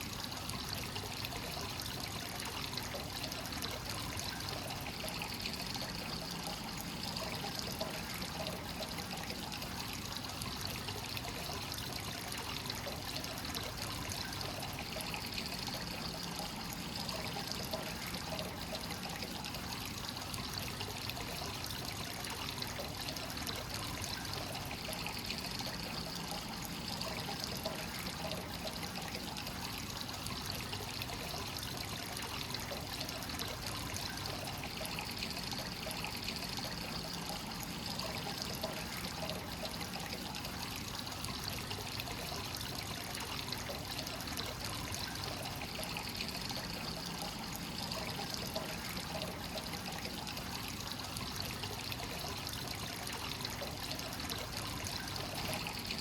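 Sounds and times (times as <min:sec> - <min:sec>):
hot spring water pouring: 0:00.0 - 0:56.0.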